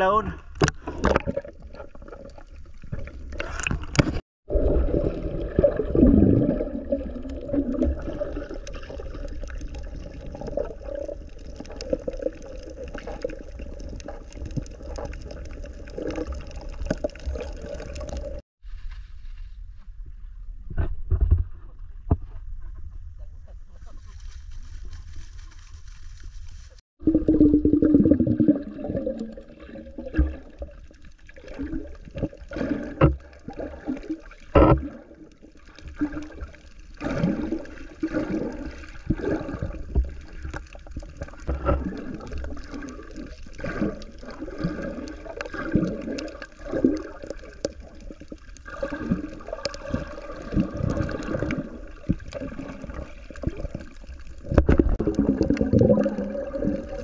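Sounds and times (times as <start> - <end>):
underwater bubbling and gurgling: 0.0 - 18.4, 24.2 - 57.0
muffled underwater water movement: 0.0 - 57.0.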